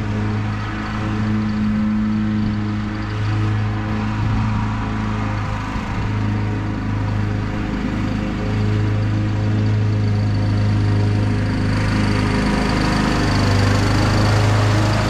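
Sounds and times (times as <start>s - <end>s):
riding mower engine running: 0.0s - 15.0s.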